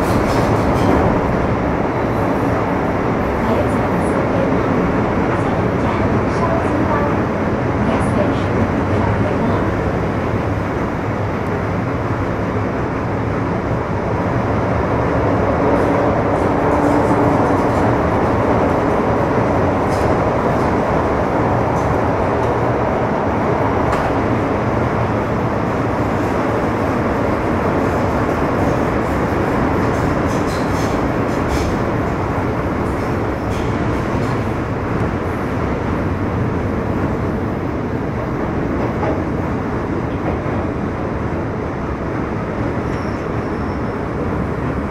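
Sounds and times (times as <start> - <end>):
train interior rumble: 0.0 - 44.9.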